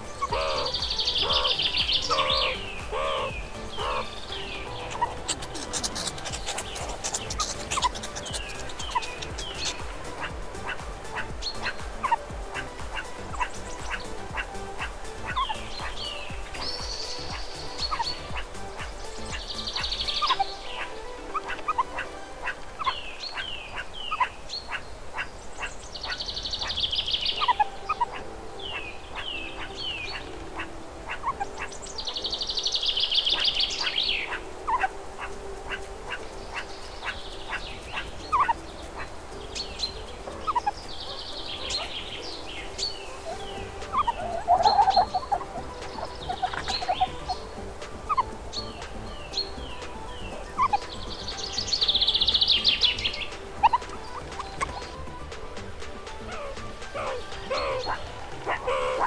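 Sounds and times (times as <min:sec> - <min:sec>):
birds chirping falling notes: 0:00.0 - 0:59.0
rapid trilling birdsong: 0:00.0 - 0:59.0.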